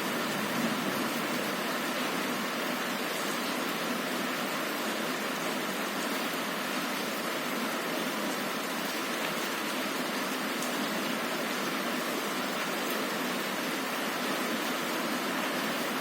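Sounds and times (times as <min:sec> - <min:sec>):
heavy rain on a window: 0:00.0 - 0:16.0.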